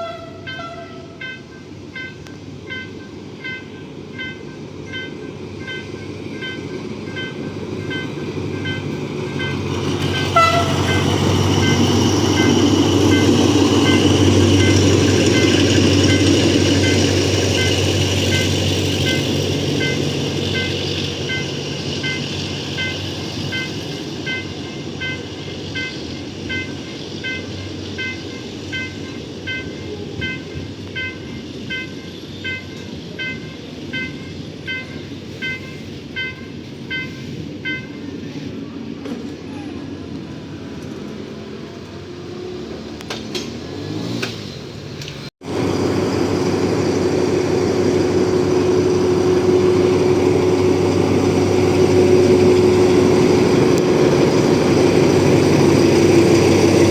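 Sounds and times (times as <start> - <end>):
locomotive rumble and wheel noise: 0.0 - 56.9.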